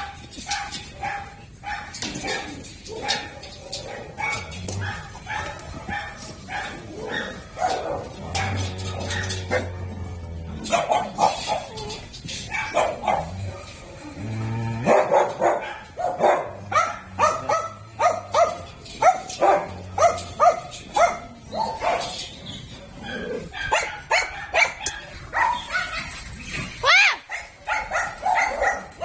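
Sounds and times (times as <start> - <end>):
dogs barking: 0.0 - 29.0.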